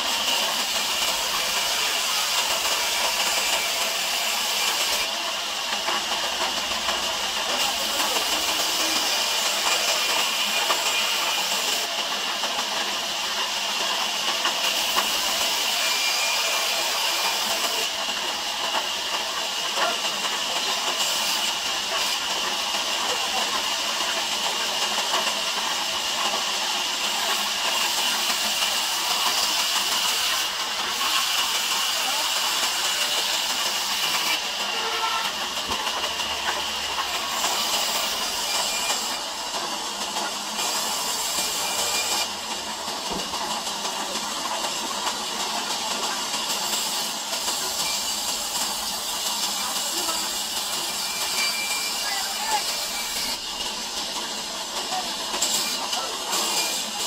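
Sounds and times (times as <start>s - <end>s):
band saw cutting log: 0.0s - 42.4s, 45.6s - 57.0s.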